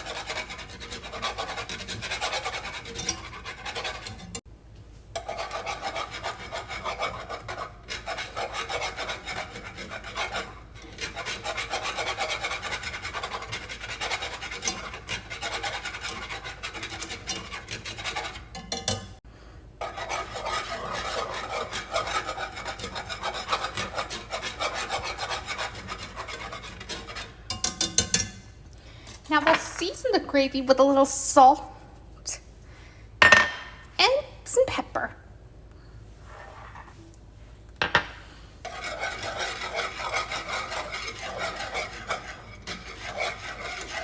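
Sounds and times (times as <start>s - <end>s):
whisk scraping a pan: 0.0s - 4.5s, 5.1s - 19.2s, 19.8s - 32.4s, 36.1s - 37.2s, 38.2s - 44.0s.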